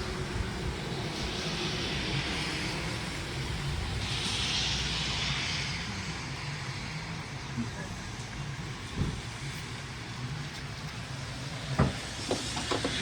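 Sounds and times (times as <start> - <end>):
passing vehicle tyre hiss: 0.0 - 13.0
road traffic rumble: 0.0 - 13.0.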